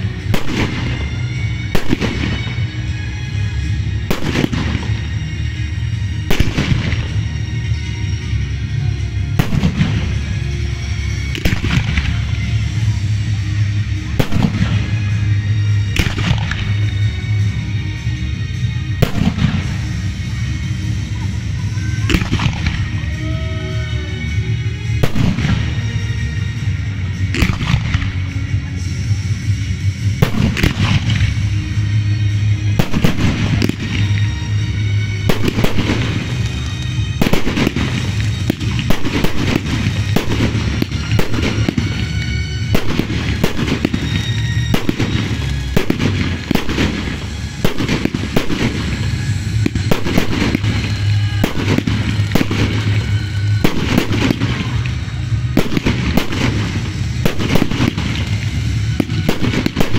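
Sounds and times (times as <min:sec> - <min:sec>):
fireworks launching and bursting: 0:00.0 - 0:23.5, 0:24.1 - 0:59.9.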